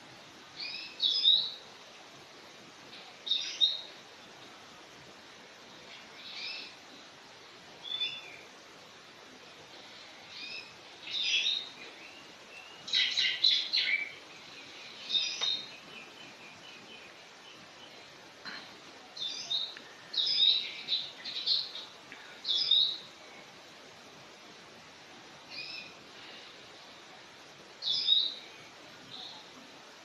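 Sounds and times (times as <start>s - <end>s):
small birds chirping: 0.2s - 30.0s.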